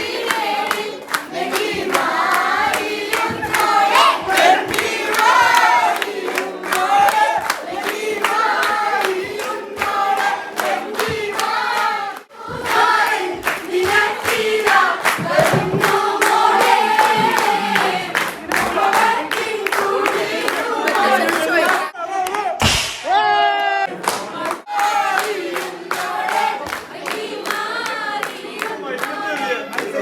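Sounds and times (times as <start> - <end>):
group singing in chorus: 0.0 - 22.0, 23.8 - 30.0
hand claps: 0.0 - 22.4, 23.9 - 30.0.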